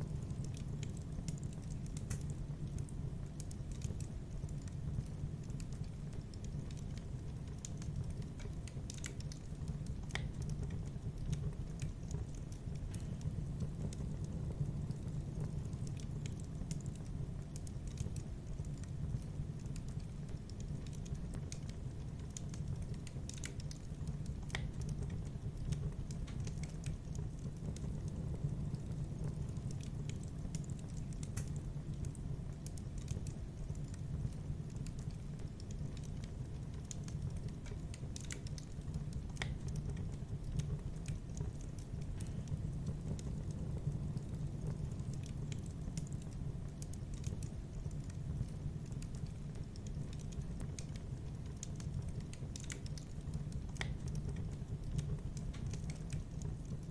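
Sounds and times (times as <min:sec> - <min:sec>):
fire crackling and popping: 0:00.0 - 0:56.9
low rumble of fire: 0:00.0 - 0:56.9.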